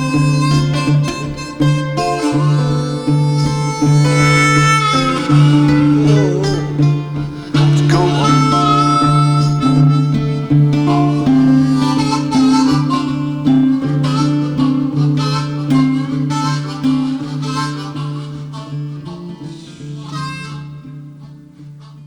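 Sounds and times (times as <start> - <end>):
guitar: 0.0 - 22.0
harmonica playing a melody: 0.0 - 22.0.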